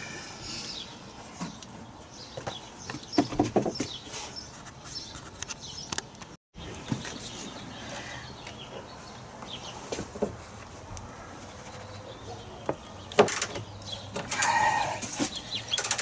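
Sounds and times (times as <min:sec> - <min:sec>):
small birds chirping: 0:00.4 - 0:10.1, 0:11.0 - 0:16.0.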